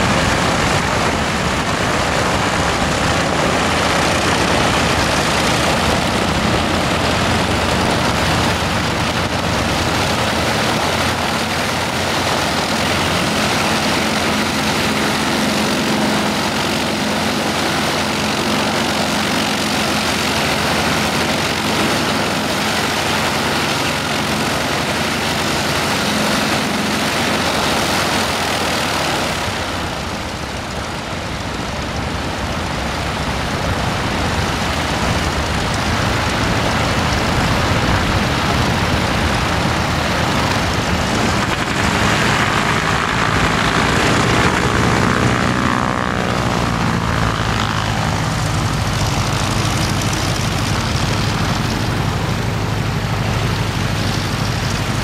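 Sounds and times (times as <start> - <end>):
propeller plane engines droning: 0.0 - 55.0.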